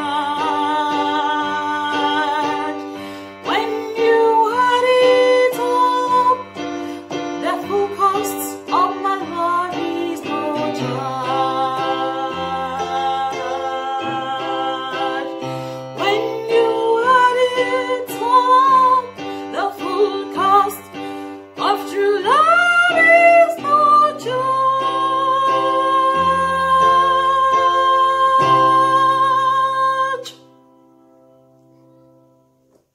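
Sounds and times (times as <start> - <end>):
woman singing: 0.0 - 30.5.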